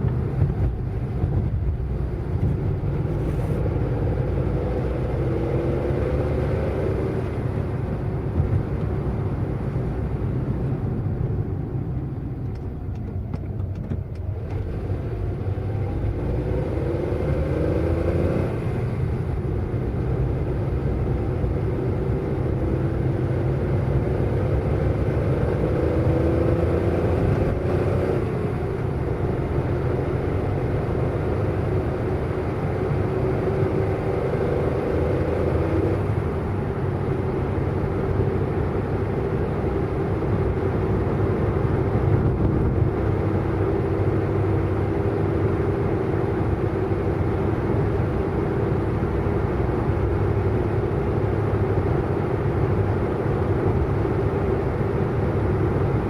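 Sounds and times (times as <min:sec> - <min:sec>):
car engine accelerating: 0:00.0 - 0:56.0
road rumble: 0:00.0 - 0:56.0.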